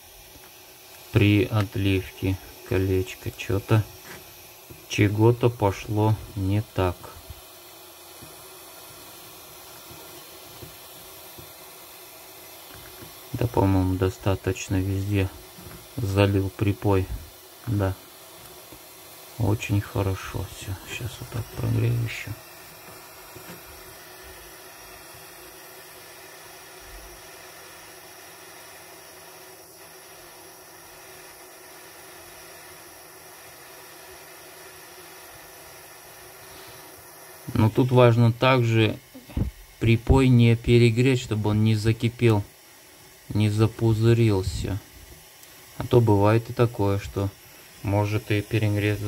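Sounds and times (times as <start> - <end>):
gas torch hissing: 0.0 - 49.0.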